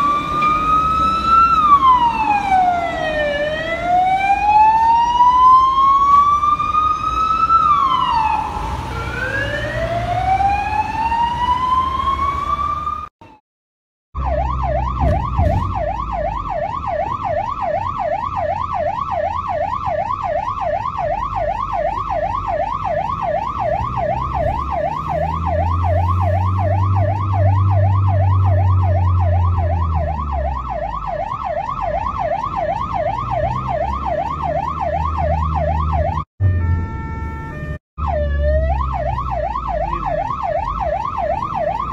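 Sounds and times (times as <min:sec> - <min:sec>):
ambulance siren wailing and yelping: 0:00.0 - 0:13.1, 0:14.2 - 0:41.9.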